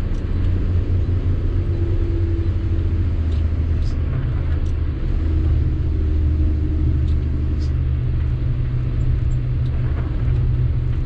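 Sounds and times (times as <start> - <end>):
diesel truck engine drone: 0.0 - 11.0.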